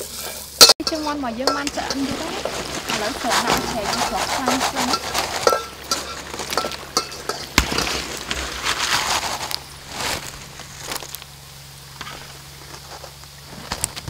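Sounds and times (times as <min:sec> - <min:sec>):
hot oil crackling: 0:00.0 - 0:14.0
fried food clattering into basket: 0:00.8 - 0:14.0.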